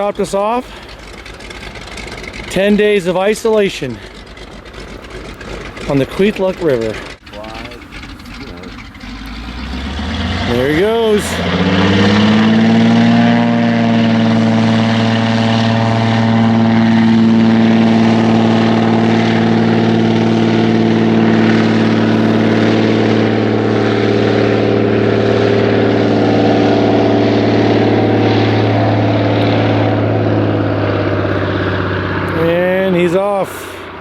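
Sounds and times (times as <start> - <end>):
propeller plane engine drone: 0.0 - 34.0.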